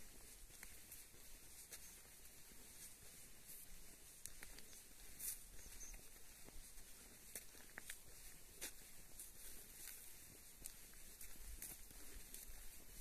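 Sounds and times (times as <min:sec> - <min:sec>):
soft ticks and rustles: 0:00.0 - 0:13.0.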